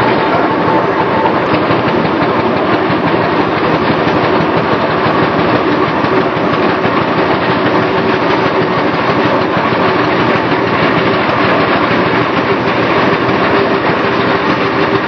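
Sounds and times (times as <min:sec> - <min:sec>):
steam engine clatter and hiss: 0:00.0 - 0:15.0.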